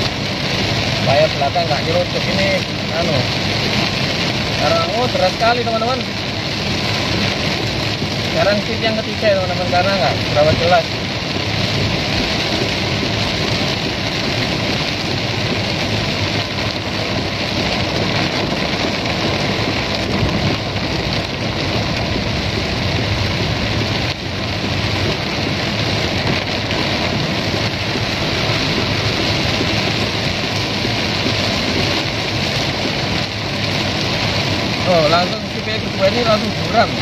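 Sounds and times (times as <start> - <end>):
heavy rain on car roof: 0.0 - 37.0.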